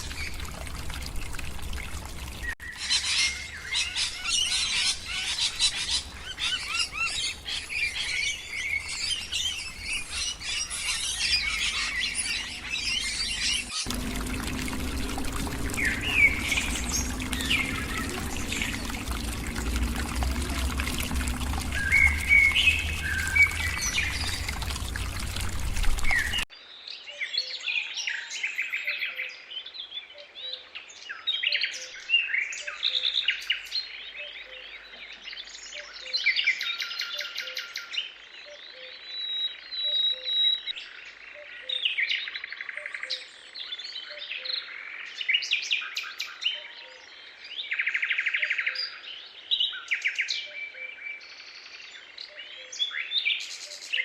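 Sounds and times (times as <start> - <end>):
forest birds calling and singing: 0.0 - 54.0.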